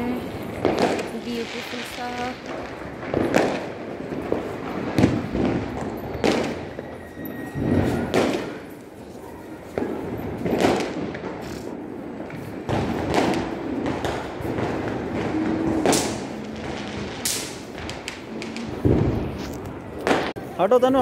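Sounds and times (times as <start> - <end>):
firecrackers banging: 0.0 - 21.0.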